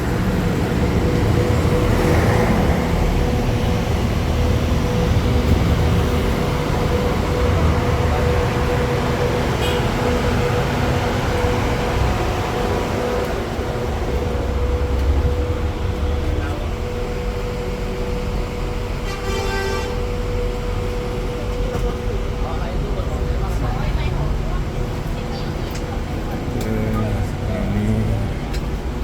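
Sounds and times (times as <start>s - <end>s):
bus engine idling: 0.0s - 29.0s
constant hum: 0.0s - 29.0s.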